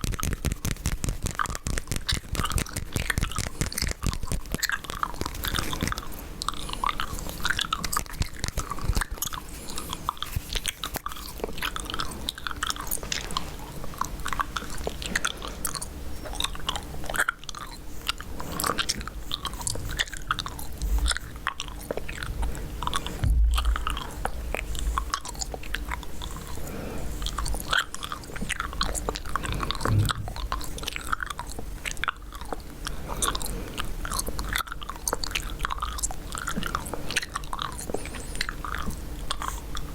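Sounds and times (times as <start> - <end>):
gum chewing: 0.0 - 39.9.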